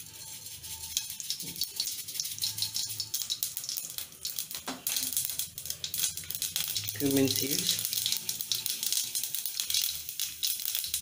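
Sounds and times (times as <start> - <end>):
seeds sizzling and popping in oil: 0.0 - 11.0.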